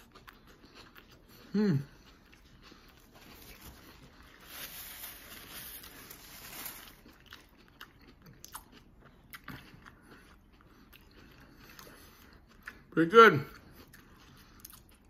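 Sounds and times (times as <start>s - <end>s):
crunchy chewing: 0.0s - 12.9s, 13.5s - 15.0s.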